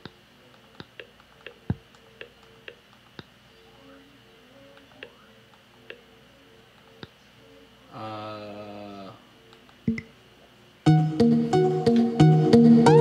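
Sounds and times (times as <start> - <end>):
faint steady hiss and hum: 0.0 - 13.0.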